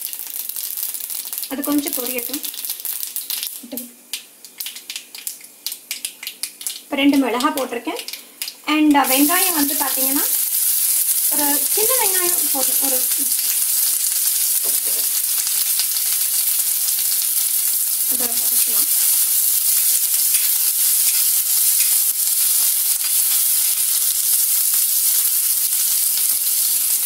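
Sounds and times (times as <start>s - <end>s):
onions sizzling in hot oil: 0.0s - 27.0s.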